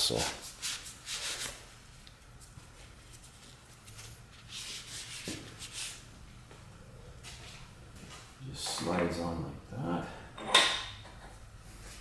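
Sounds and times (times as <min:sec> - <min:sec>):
faint steady machine hum: 0:00.0 - 0:12.0.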